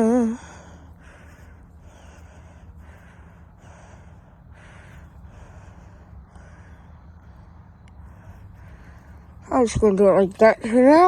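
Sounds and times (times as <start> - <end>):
person breathing heavily: 0.0 - 9.5
steady low rumble: 0.0 - 11.0.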